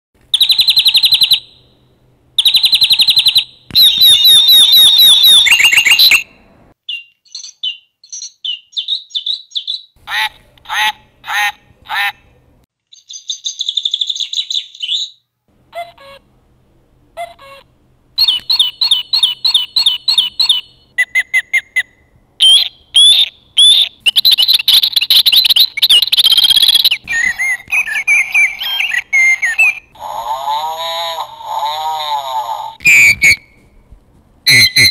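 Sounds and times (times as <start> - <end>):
recorded birdsong from toys: 0.3 - 16.2, 17.2 - 33.6, 34.5 - 34.9.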